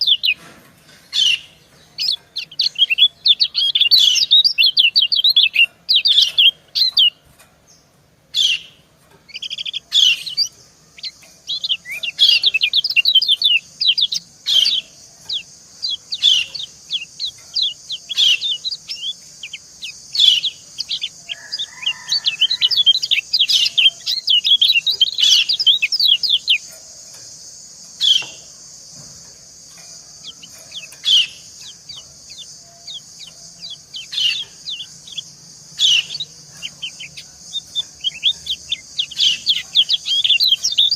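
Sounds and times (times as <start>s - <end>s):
bird song: 0.0s - 40.9s
birds chirping: 0.0s - 40.9s
steady high hiss: 0.0s - 40.9s.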